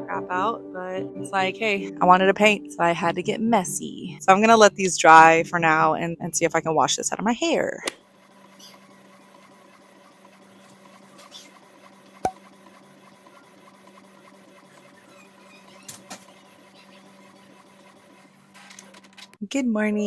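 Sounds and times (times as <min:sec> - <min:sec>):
faint machine hum: 0:00.0 - 0:19.2.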